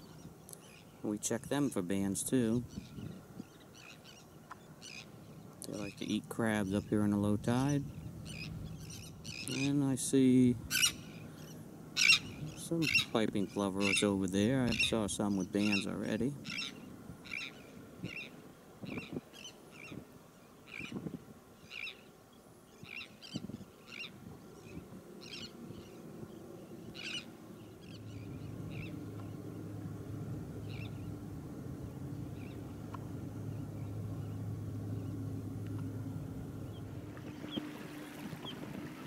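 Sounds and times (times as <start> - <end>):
low engine drone: 0.0 - 19.1, 23.9 - 39.0
shorebird calls: 0.0 - 39.0.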